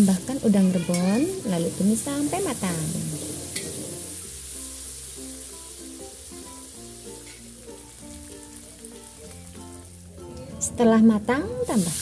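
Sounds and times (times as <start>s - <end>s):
spice paste sizzling in hot oil: 0.0s - 10.3s, 11.3s - 12.0s
soft background music: 0.0s - 12.0s.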